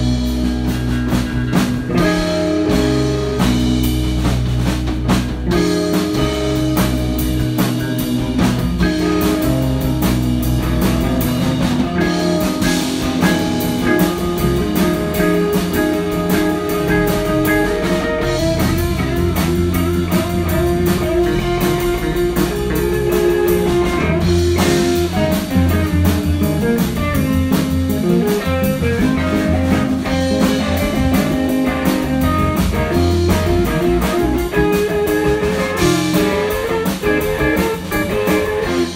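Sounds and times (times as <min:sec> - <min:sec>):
drum kit beat: 0:00.0 - 0:38.9
guitar: 0:00.0 - 0:38.9.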